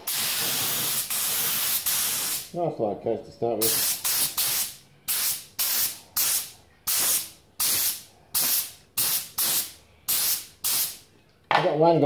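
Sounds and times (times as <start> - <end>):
spray gun hissing: 0.0 - 2.5, 3.6 - 11.0.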